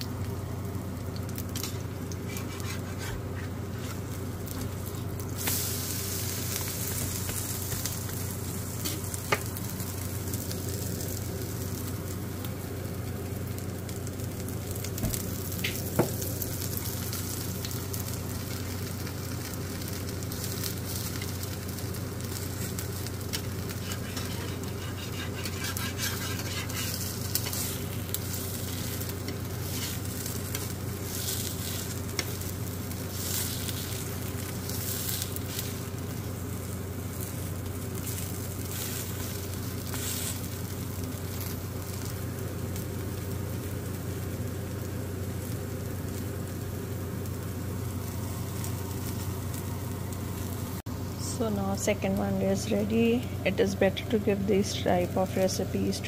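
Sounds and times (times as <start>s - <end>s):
flatbread sizzling in oil: 0.0s - 51.2s.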